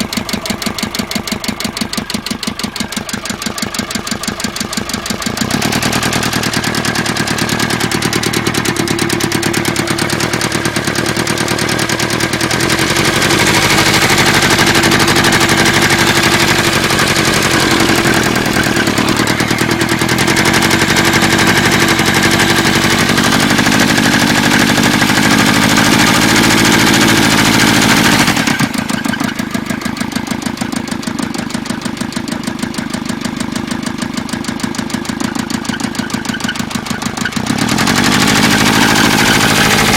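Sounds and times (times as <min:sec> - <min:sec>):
diesel engine running with knock: 0:00.0 - 0:39.9.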